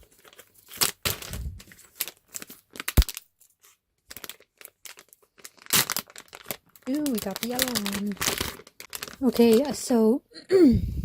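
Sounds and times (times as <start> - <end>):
plastic packaging crinkling and tearing: 0.0 - 10.1.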